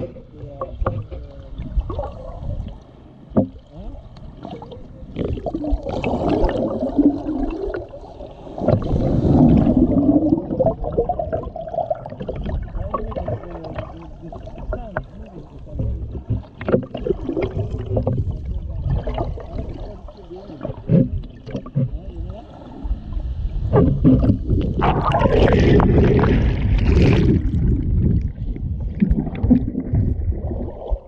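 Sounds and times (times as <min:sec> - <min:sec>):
underwater clicks and gurgles: 0:00.0 - 0:31.0
underwater water rumble: 0:00.0 - 0:31.0.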